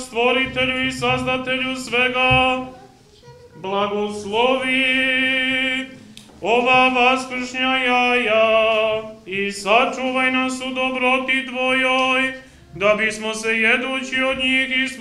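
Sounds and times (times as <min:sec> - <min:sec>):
men chanting: 0:00.0 - 0:02.8, 0:03.6 - 0:15.0.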